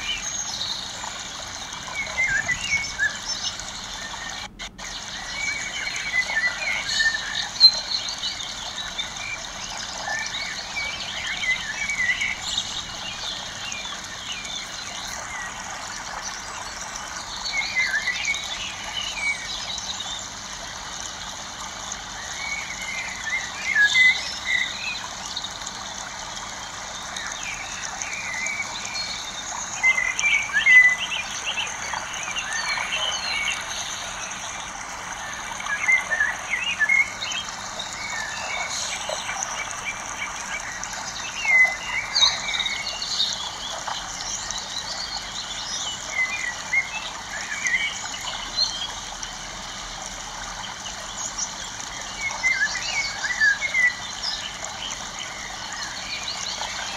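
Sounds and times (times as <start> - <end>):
birds chirping: 0.0 - 49.2
steady outdoor hiss: 0.0 - 56.9.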